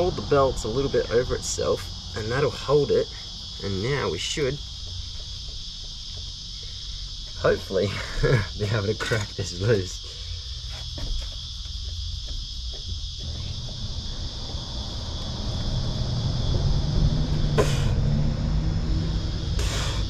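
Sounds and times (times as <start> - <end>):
insects chirring: 0.0 - 20.0
low rumble with hum: 0.0 - 20.0.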